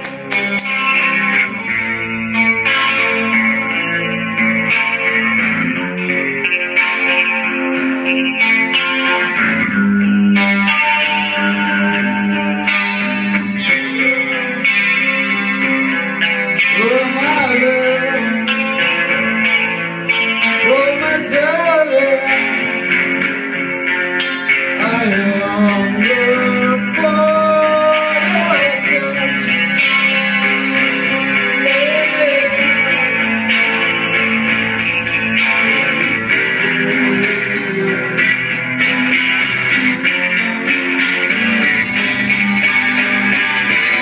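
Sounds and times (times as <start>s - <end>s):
electric guitar playing: 0.0s - 44.0s.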